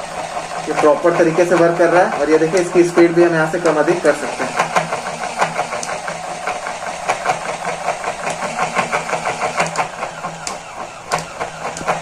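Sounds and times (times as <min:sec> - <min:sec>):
small electric motor humming: 0:00.0 - 0:12.0
fast regular knocking: 0:00.2 - 0:12.0.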